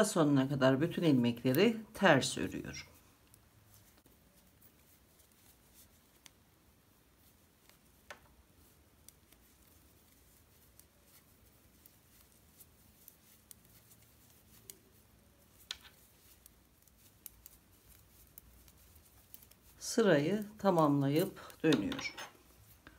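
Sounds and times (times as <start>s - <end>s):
knitting needles clicking: 2.6s - 6.6s, 7.2s - 22.9s.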